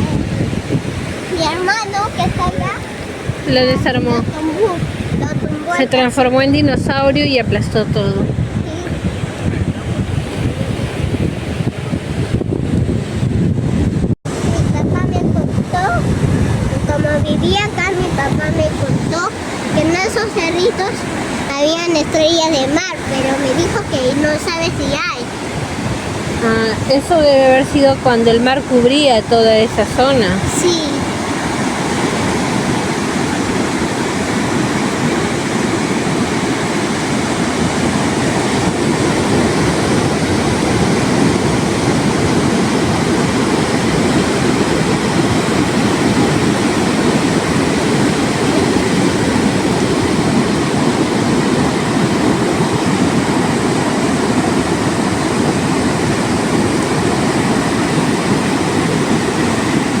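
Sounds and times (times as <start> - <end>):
surf breaking on beach: 0.0 - 60.0.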